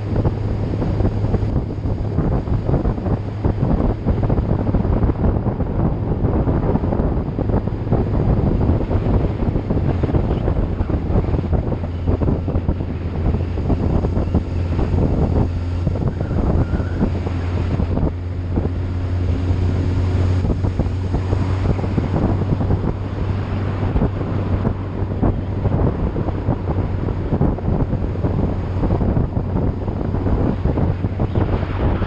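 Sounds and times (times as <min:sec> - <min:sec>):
vehicle engine running: 0:00.0 - 0:32.0
wind buffeting microphone: 0:00.0 - 0:32.0.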